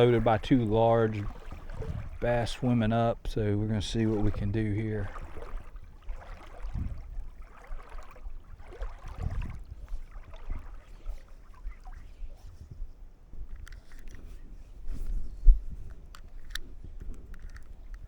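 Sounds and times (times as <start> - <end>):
water swishing and splashing: 0.0 - 18.0.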